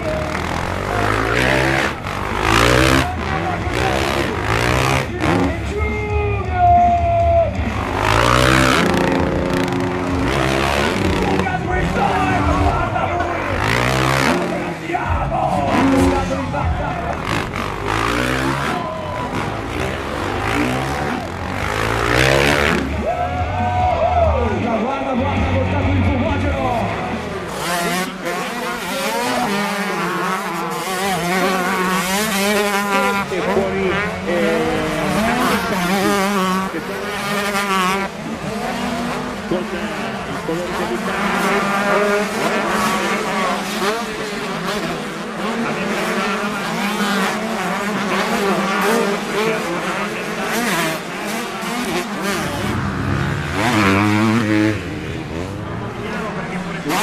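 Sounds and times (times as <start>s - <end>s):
motocross bikes racing: 0.0s - 57.0s.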